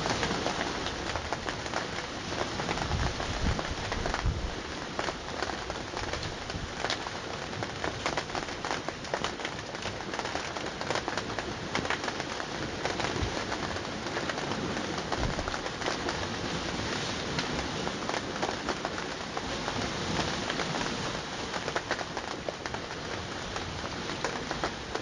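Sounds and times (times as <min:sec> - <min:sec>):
rain drops tapping on surface: 0:00.0 - 0:25.0.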